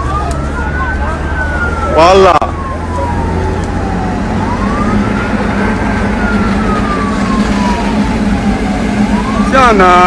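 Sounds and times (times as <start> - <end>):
emergency siren wailing: 0.0 - 10.0.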